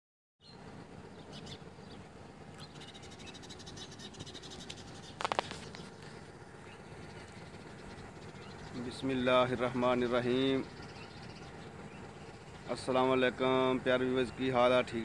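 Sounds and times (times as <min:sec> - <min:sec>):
birds chirping: 0:00.4 - 0:15.0.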